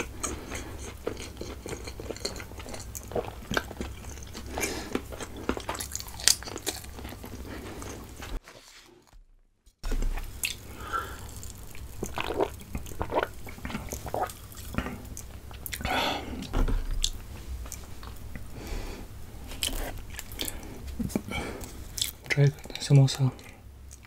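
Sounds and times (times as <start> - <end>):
chewing with mouth clicks: 0.0 - 8.4, 9.9 - 18.5, 19.6 - 22.8.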